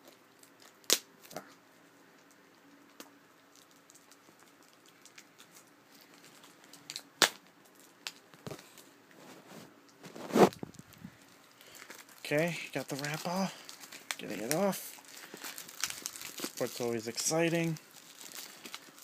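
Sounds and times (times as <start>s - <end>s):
plastic wrap snapping: 0.0s - 1.4s, 2.9s - 8.8s, 9.9s - 19.0s
plastic shrink wrap crinkling: 2.2s - 19.0s
plastic wrap tearing rustle: 2.9s - 19.0s.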